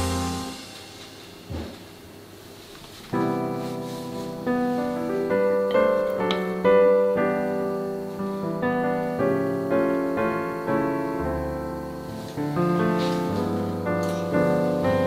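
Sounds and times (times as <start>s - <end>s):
piano music: 0.0s - 1.7s, 3.0s - 15.0s.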